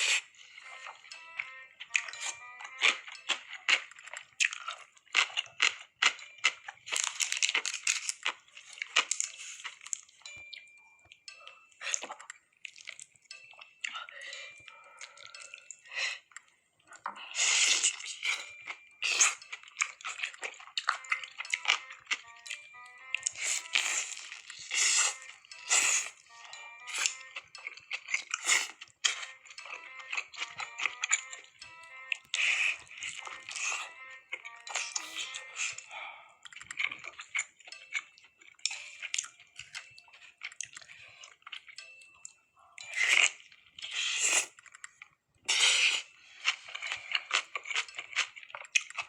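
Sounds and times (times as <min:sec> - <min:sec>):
utensils clicking and tapping: 0:00.6 - 0:45.0, 0:46.4 - 0:49.0.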